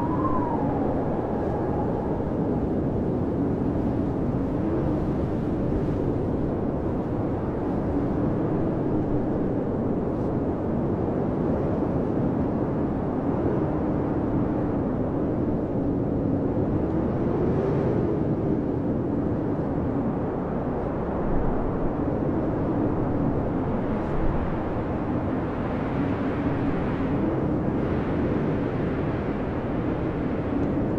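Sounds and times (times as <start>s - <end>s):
blizzard wind blowing: 0.0s - 30.9s.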